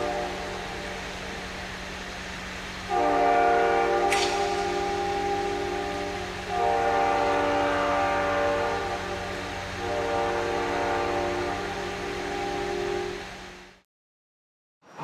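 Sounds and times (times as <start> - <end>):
locomotive air horn blasts: 0.0 - 1.6, 2.8 - 13.6.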